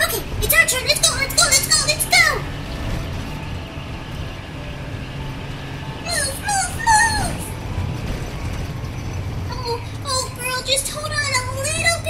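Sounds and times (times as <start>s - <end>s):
toy car rolling on asphalt: 0.0s - 12.0s.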